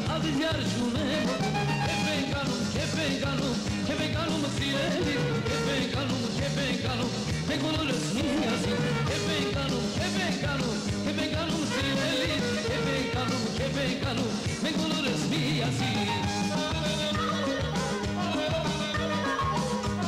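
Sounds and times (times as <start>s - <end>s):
upbeat band music: 0.0s - 20.0s.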